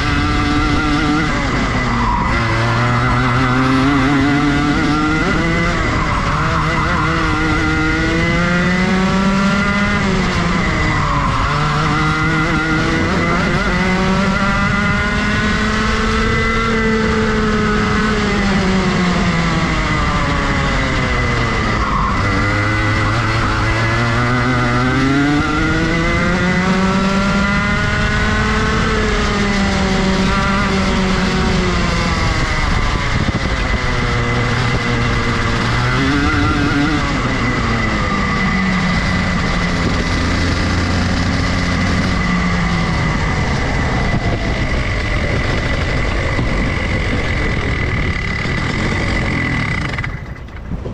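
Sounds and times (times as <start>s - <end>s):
kart engine revving: 0.0s - 50.9s.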